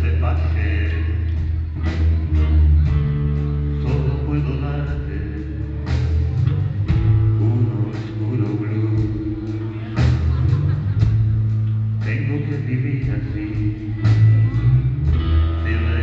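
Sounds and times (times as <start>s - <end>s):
steady drumbeat: 0.0s - 4.0s, 4.8s - 16.0s
bass line: 0.0s - 16.0s
electric guitars: 0.0s - 16.0s.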